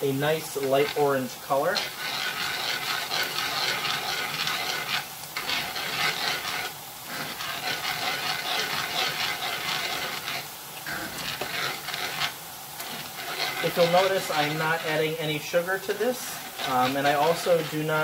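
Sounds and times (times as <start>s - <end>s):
cream being poured: 0.0s - 18.0s
sauce sizzling in a skillet: 0.0s - 18.0s
whisking: 0.0s - 18.0s.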